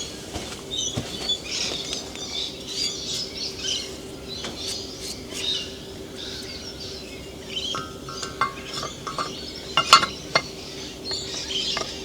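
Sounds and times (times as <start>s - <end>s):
birds chattering and squawking: 0.0s - 12.0s.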